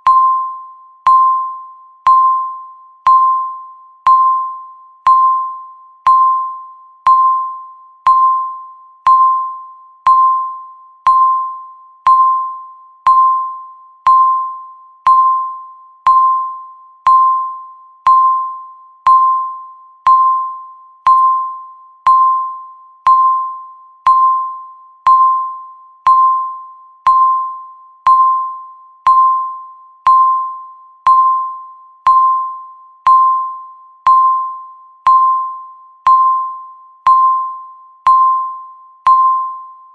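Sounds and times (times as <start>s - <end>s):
countdown timer beep: 0.0s - 39.9s.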